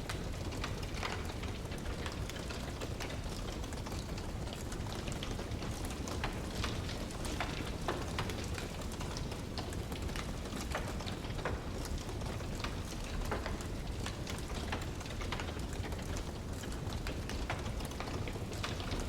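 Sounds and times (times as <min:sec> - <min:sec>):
logs crackling and popping: 0:00.0 - 0:19.0.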